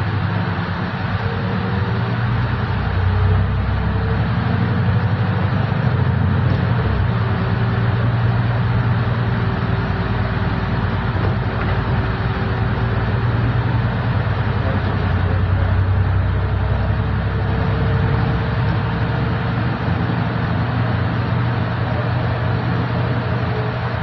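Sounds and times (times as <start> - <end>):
bus engine hum: 0.0 - 24.0
road noise: 0.0 - 24.0.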